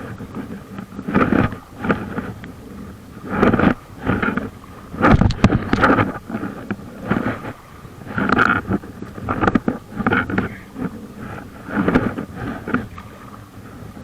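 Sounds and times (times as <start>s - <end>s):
paddle strokes splashing water: 0.0s - 14.0s
wind buffeting microphone: 0.0s - 14.0s.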